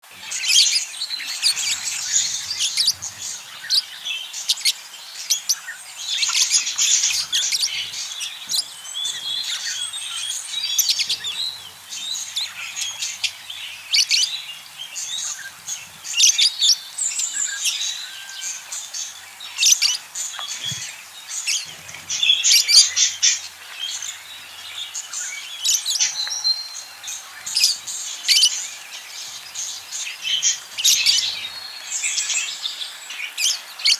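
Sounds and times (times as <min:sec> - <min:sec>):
budgerigars chattering and chirping: 0:00.1 - 0:33.9.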